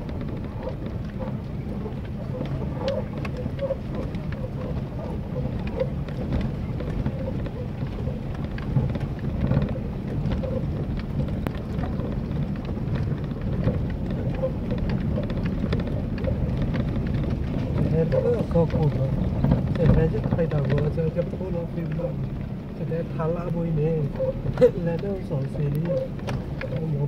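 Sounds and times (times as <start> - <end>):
engine and tyres rumbling: 0.0 - 27.0
knocks and rattles of bumping: 0.0 - 27.0.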